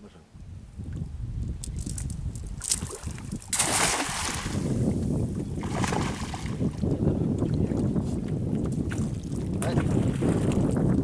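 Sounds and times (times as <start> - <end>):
wind rumbling on microphone: 0.2 - 11.0.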